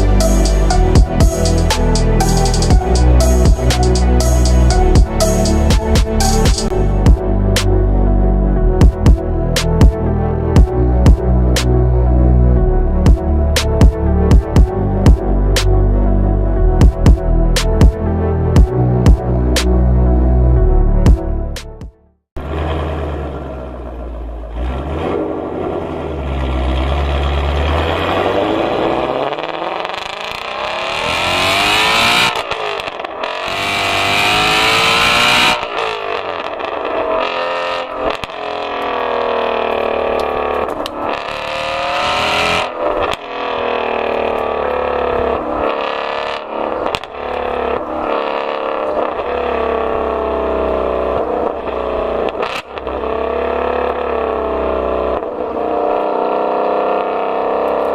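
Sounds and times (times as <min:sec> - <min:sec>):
car engine accelerating hard: 0:00.0 - 0:21.7, 0:22.4 - 0:57.9.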